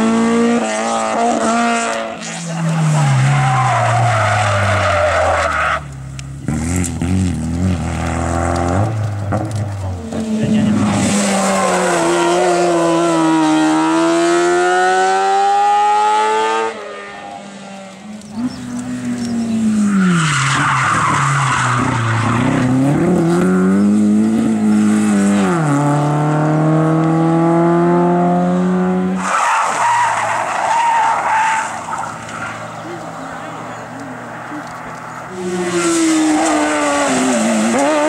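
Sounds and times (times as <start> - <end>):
race car engines at full throttle: 0.0 - 38.0.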